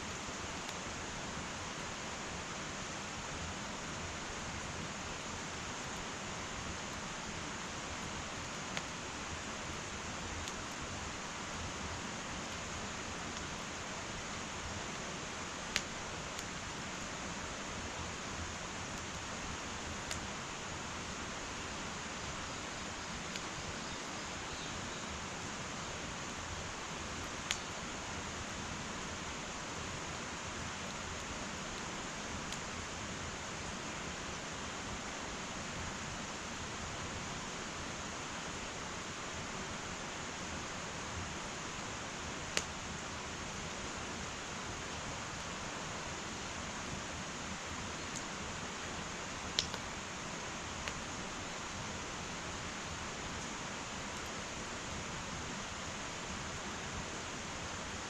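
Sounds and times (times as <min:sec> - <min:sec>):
fire crackles: 0:00.0 - 0:58.0
wood fire hissing: 0:00.0 - 0:58.0.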